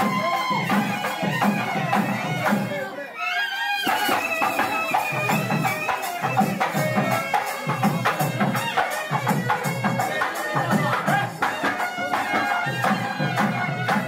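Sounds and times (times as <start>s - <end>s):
steady drum beat: 0.0s - 3.0s, 3.8s - 14.0s
reedy wind instrument melody: 0.0s - 14.0s.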